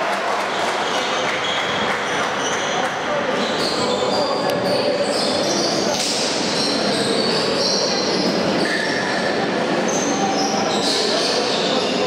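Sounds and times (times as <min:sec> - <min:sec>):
crowd and hall din: 0:00.0 - 0:12.0.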